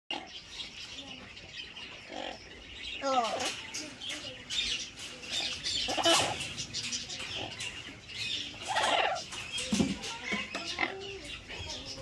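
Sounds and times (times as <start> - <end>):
parrots squawking: 0.1 - 0.5, 1.8 - 3.9, 4.8 - 12.0
birds chirping: 0.1 - 12.0.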